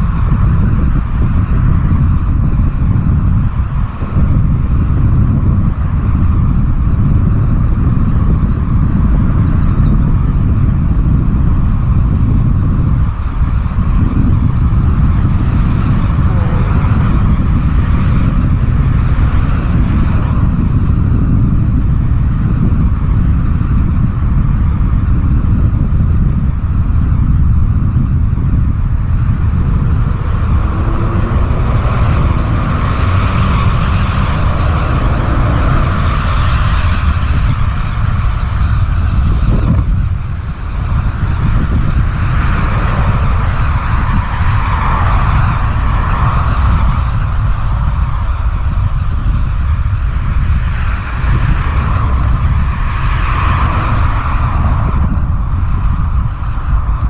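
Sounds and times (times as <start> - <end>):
road noise: 0.0 - 57.0
wind rumbling on microphone: 0.0 - 57.0.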